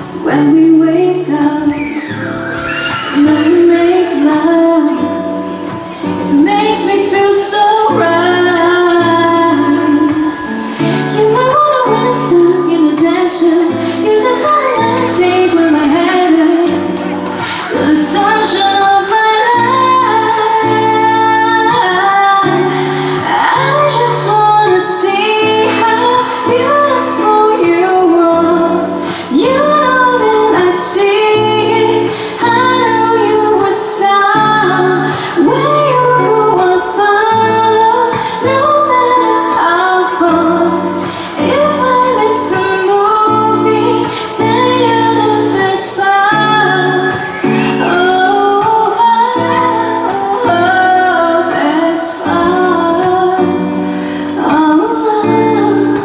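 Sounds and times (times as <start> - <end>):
woman singing slow song: 0.0 - 56.0.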